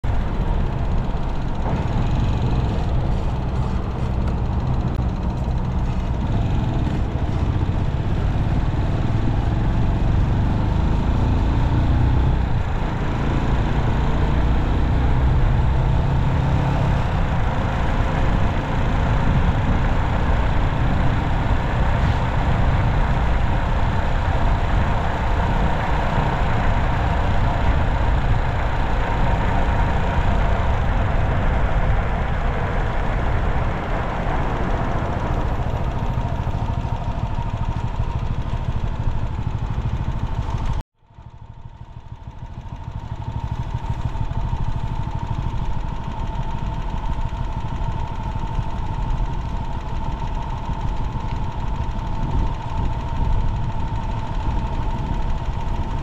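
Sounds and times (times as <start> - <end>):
low engine hum: 0.0 - 56.0
road traffic: 0.0 - 56.0.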